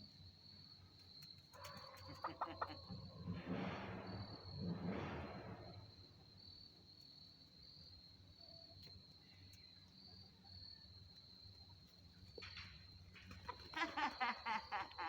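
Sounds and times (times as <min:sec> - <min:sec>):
faint insects trilling: 0:00.0 - 0:03.4, 0:04.0 - 0:15.0.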